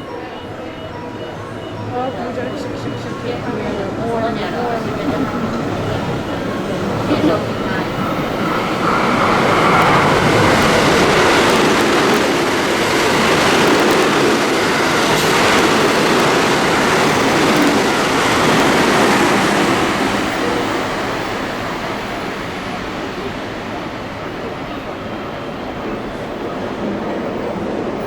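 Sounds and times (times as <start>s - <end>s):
train wheels roaring on rails: 0.0s - 28.0s.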